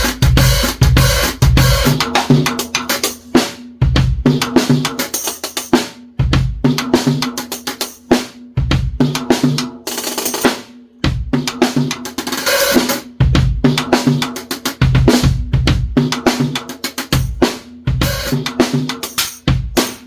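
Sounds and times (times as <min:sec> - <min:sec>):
drum kit groove: 0:00.0 - 0:20.0.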